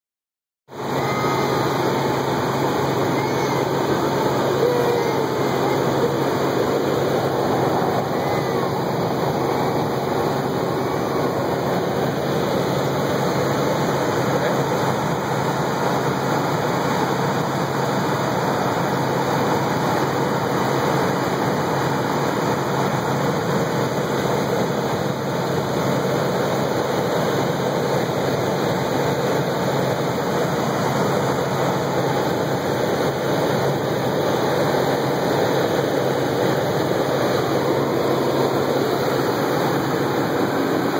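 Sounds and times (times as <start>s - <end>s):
helicopter engine and rotor noise: 0.7s - 40.9s.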